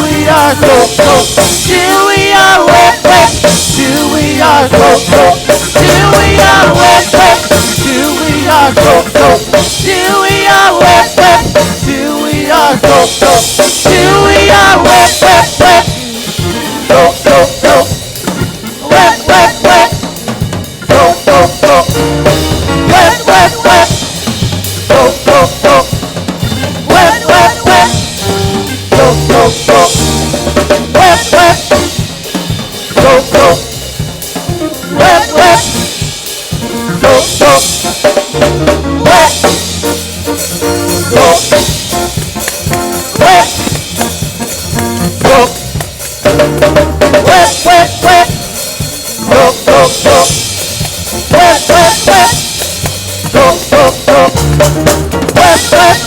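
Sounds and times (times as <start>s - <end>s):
praise band instrumental: 0.0s - 56.0s.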